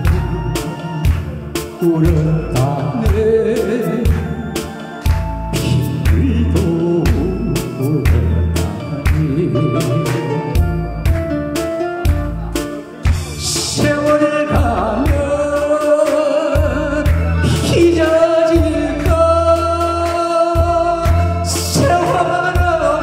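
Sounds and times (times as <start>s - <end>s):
man singing into microphone: 0.0s - 11.4s, 12.6s - 23.0s
backing track with drums: 0.0s - 23.0s.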